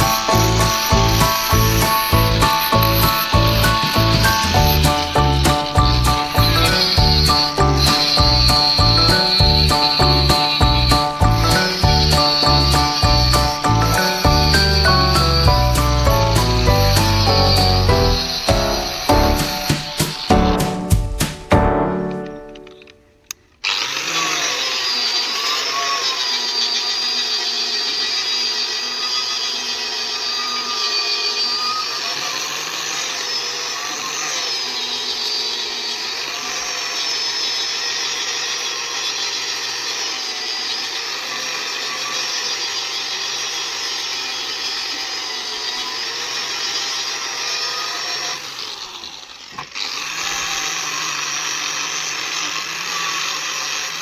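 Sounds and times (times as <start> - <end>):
power tool whining: 0.0 - 54.0.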